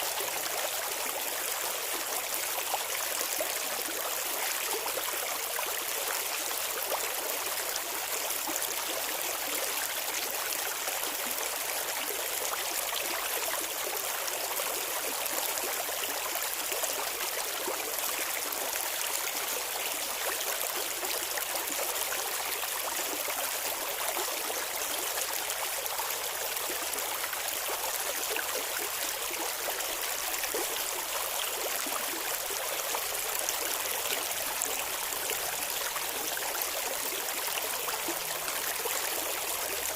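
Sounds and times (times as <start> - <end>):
river water babbling over stones: 0.0 - 39.9.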